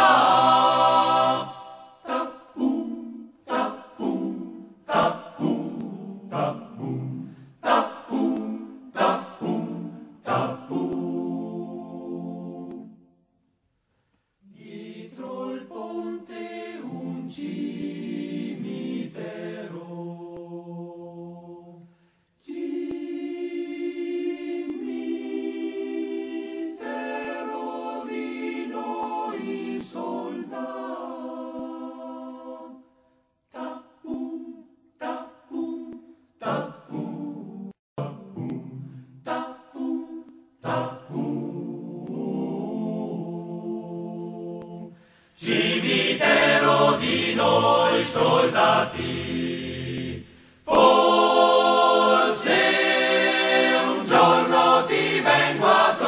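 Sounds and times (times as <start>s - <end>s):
a cappella choir singing: 0.0s - 13.4s, 14.4s - 56.0s.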